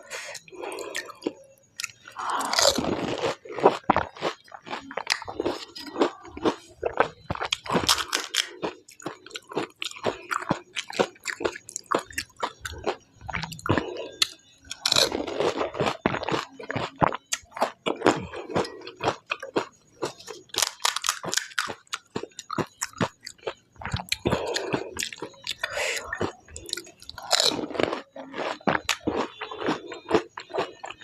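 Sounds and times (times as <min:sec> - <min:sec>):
wet chewing: 0:00.3 - 0:31.0
crisp food crunching: 0:00.4 - 0:31.0.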